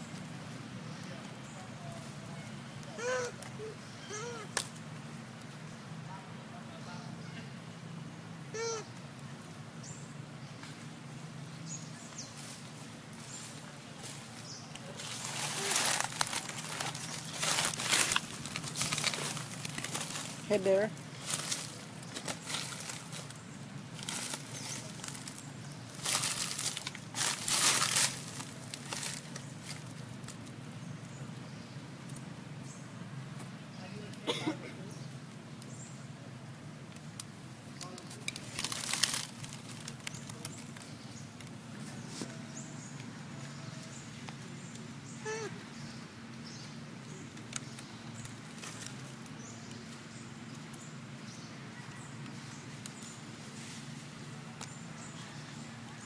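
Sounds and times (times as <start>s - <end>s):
steady low hum: 0.0s - 56.0s
dry leaves rustling: 10.5s - 56.0s.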